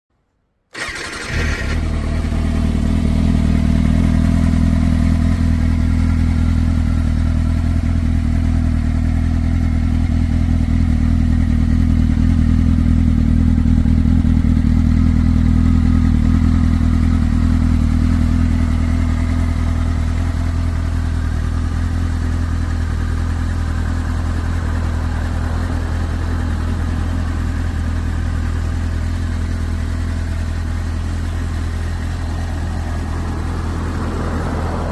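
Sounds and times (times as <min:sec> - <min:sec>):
motorcycle engine starting and idling: 0:00.7 - 0:34.9.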